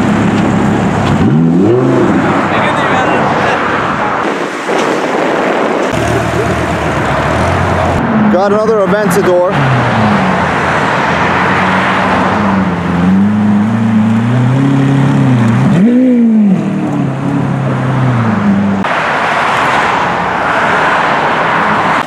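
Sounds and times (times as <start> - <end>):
car engine rumbling: 0.0 - 22.0
rushing traffic noise: 0.0 - 22.0.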